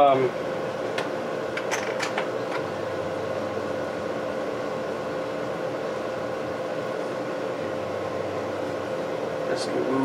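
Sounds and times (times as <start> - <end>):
fan-like hum with constant tone: 0.0 - 10.0.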